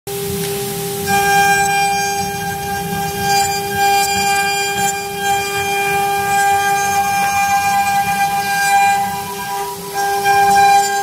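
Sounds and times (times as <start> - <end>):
router spindle high whine: 0.1 - 11.0.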